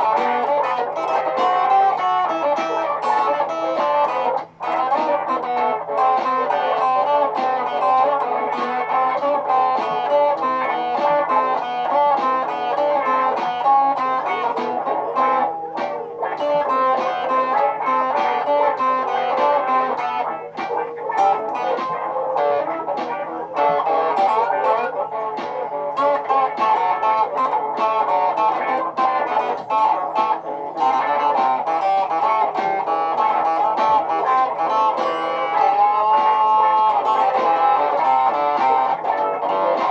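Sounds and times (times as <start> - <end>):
looped guitar playing: 0.0 - 39.9.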